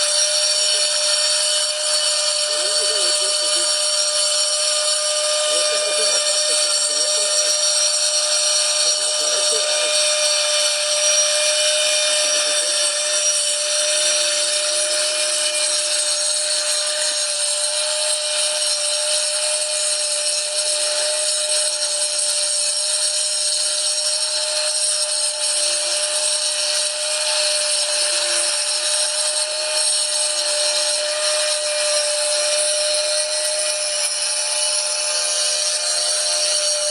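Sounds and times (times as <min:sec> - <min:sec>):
angle grinder grinding grout: 0:00.0 - 0:36.9.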